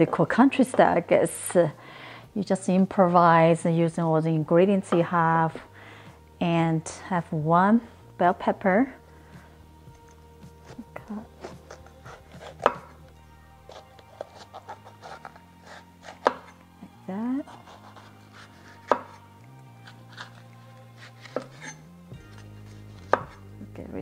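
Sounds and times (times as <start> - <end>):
quiet background music: 0.0 - 24.0.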